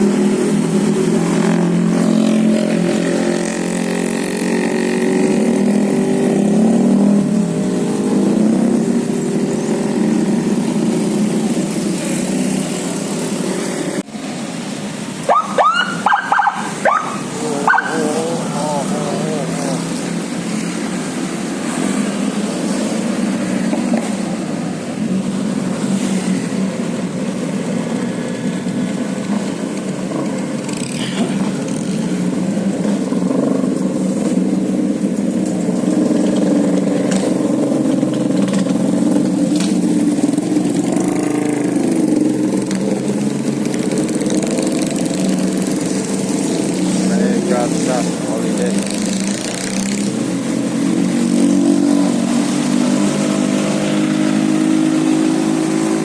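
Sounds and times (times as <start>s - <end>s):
motor vehicle engines running: 0.0s - 56.0s
road traffic noise: 0.0s - 56.0s.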